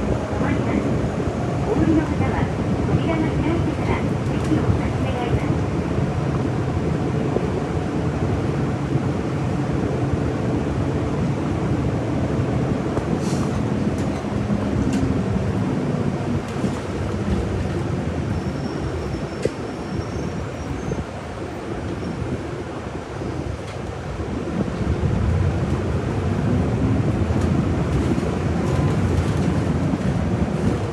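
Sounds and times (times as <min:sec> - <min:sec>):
bus engine and road rumble: 0:00.0 - 0:30.9.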